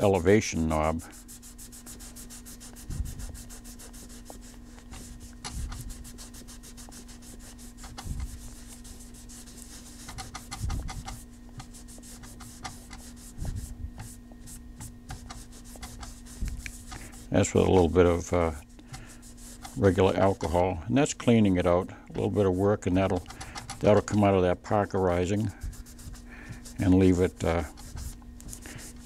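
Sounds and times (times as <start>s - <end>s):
cloth rag rubbing on steel: 0.0s - 29.0s
faint steady hum: 0.0s - 29.0s.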